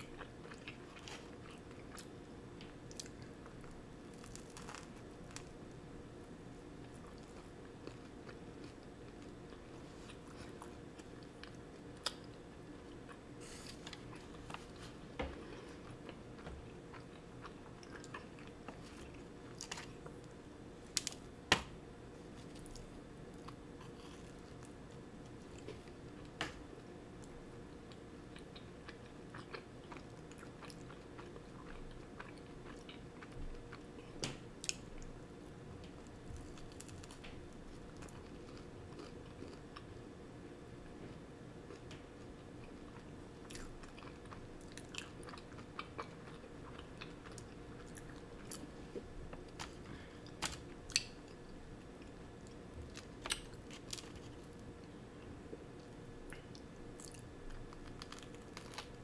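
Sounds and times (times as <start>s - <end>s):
chewing crunchy bread: 0.0s - 5.8s, 6.7s - 21.2s, 22.2s - 40.1s, 41.7s - 59.0s.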